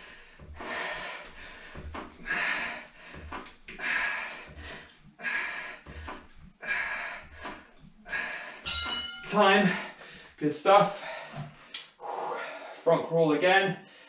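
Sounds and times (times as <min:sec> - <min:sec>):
man breathing hard: 0:00.0 - 0:12.8, 0:13.8 - 0:14.0.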